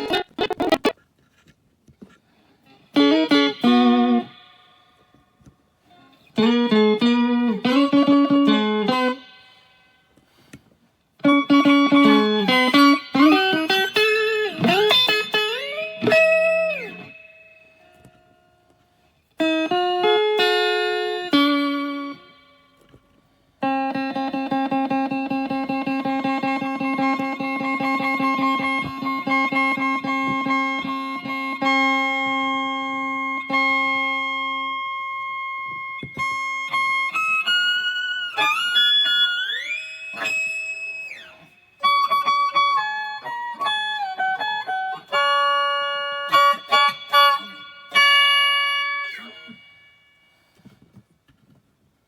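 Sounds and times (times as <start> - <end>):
electric guitar solo: 2.6 - 5.2, 5.9 - 10.5, 11.2 - 18.7, 19.4 - 22.9, 23.6 - 50.6.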